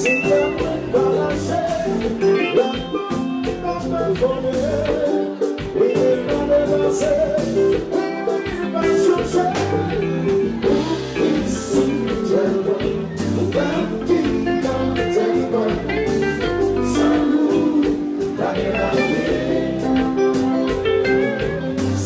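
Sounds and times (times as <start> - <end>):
guitar: 0.0 - 22.0
man singing: 0.0 - 22.0
steady drum beat: 0.0 - 22.0.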